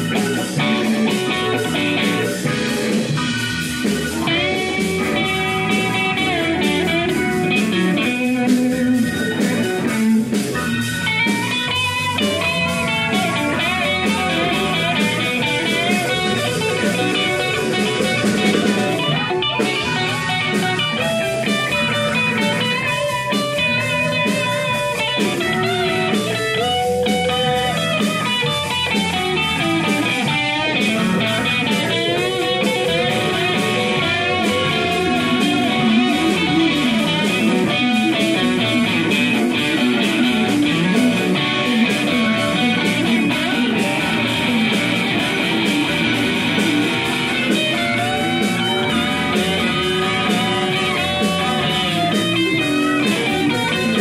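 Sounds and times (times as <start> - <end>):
blues band playing: 0.0 - 54.0
electric guitar lead with bent notes: 0.0 - 54.0.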